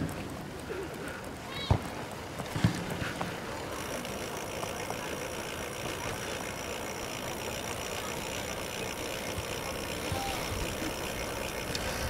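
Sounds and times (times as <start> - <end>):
bicycle tyre noise on concrete: 0.0 - 12.0.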